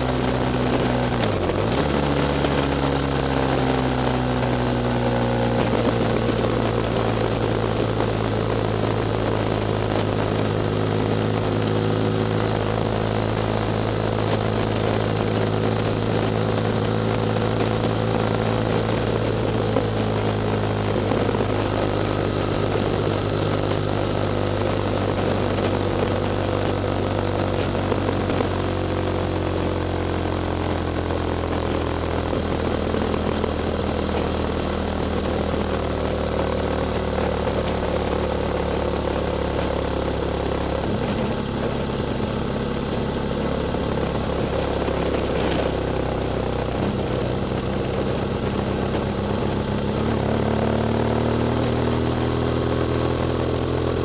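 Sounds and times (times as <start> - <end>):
wind noise: 0.0 - 29.8, 30.6 - 54.0
motorcycle engine running: 0.0 - 54.0.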